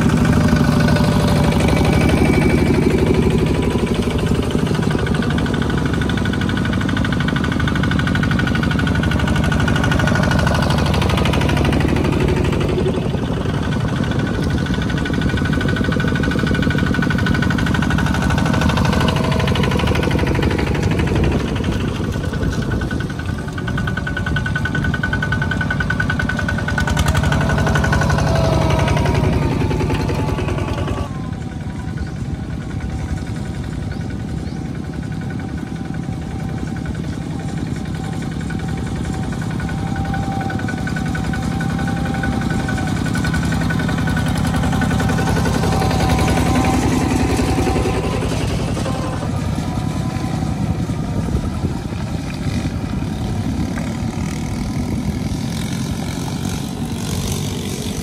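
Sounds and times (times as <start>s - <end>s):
diesel tractor engines chugging: 0.0s - 58.0s.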